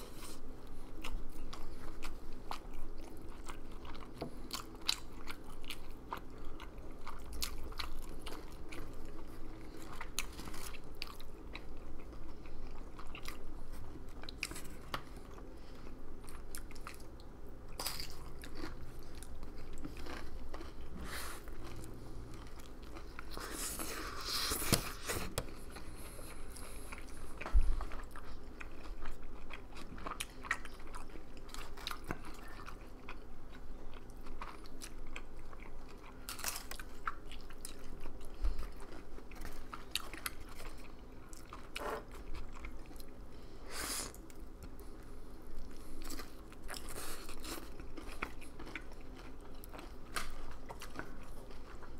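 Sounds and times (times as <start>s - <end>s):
chewing and biting: 0.0s - 43.2s, 44.0s - 51.9s.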